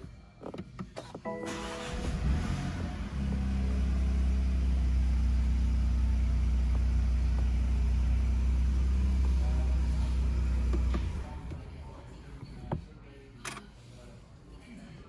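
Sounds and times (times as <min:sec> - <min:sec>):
car engine idling: 0:01.5 - 0:13.6.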